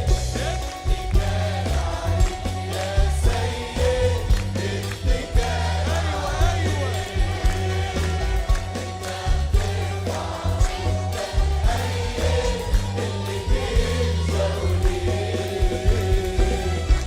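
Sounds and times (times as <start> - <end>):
choir singing: 0.0 - 17.0
drum hits: 0.0 - 17.0
sustained bass notes: 0.0 - 17.0.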